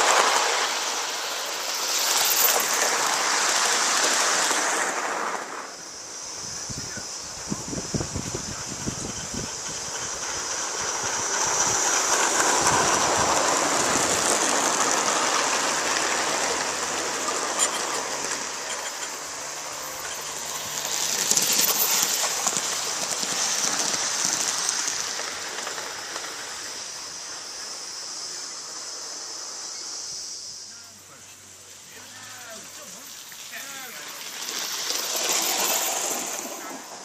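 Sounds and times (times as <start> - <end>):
train wheels clattering over rails: 0.0 - 30.6, 31.5 - 37.0
steam hissing: 0.0 - 37.0.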